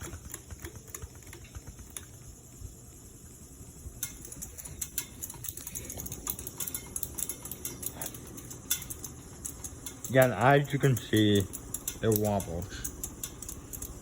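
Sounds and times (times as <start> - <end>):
ceiling fan humming: 0.0 - 14.0
faint ticks and clicks: 0.0 - 14.0.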